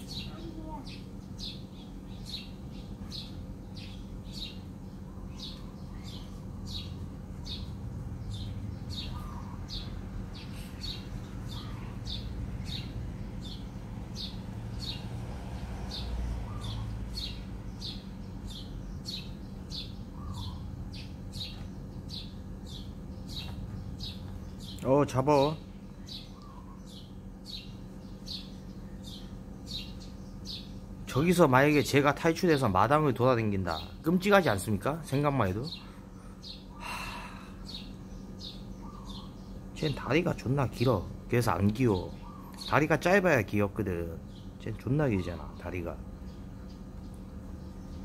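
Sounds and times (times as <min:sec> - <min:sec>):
small bird chirping: 0:00.0 - 0:48.0
steady low hum: 0:00.0 - 0:48.0.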